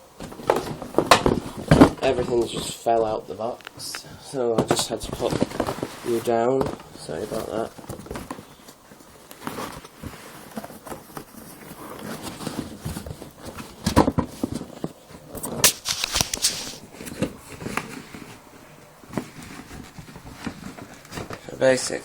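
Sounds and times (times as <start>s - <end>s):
cardboard rustling: 0.0s - 22.0s.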